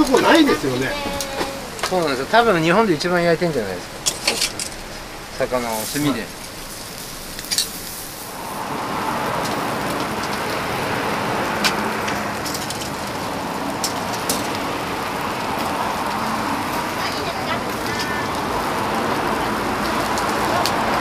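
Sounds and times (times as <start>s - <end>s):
fish sizzling on charcoal grill: 0.0s - 21.0s.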